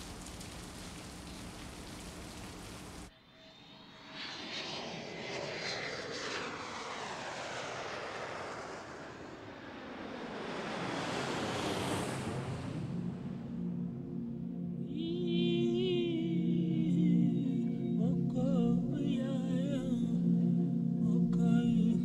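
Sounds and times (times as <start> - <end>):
aircraft flying past: 0.0 - 18.8.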